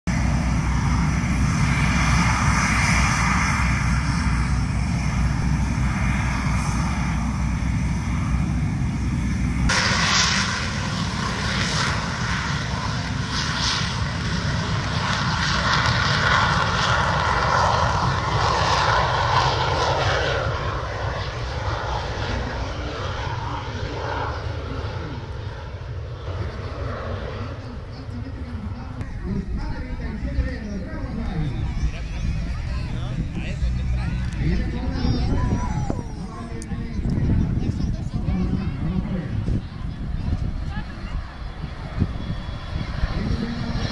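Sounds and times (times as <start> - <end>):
military jet engines roaring: 0.1 - 43.9.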